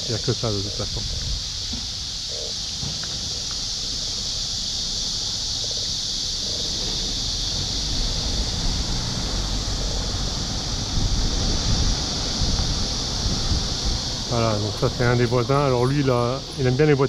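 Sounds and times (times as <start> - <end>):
high-pitched hiss: 0.0 - 17.0
wind rumbling on microphone: 0.0 - 17.0.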